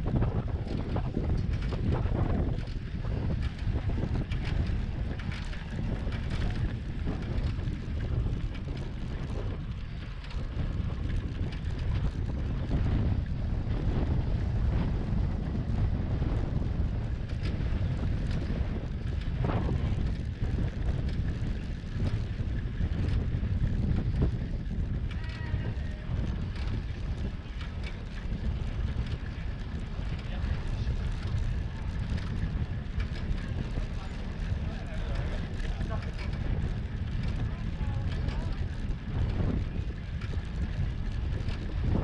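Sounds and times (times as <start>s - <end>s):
wind buffeting microphone: 0.0s - 42.0s
tyres rumbling over brick paving: 0.1s - 42.0s.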